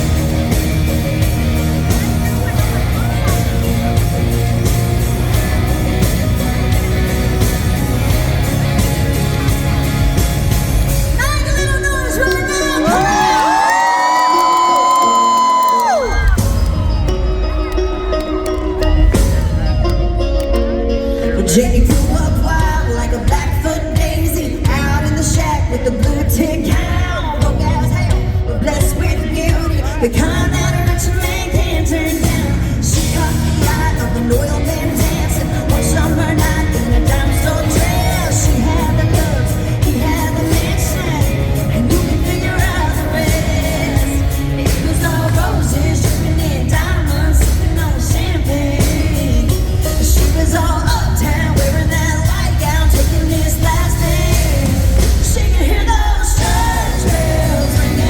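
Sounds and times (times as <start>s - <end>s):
heavy drum beat: 0.0s - 14.6s, 21.8s - 58.0s
country-rock band playing: 0.0s - 58.0s
heavy bass: 0.0s - 58.0s
woman singing lead: 11.0s - 58.0s.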